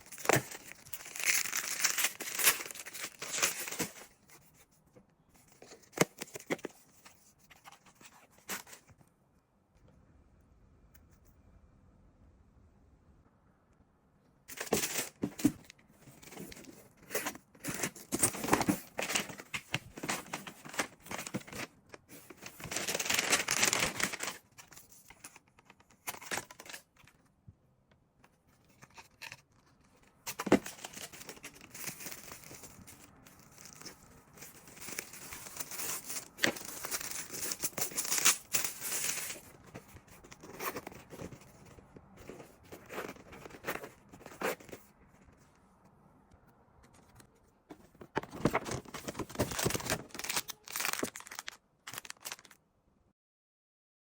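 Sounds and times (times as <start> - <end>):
paper and plastic rustling: 0.0 - 4.7, 5.4 - 8.9, 14.5 - 27.3, 28.3 - 45.6, 46.8 - 52.6.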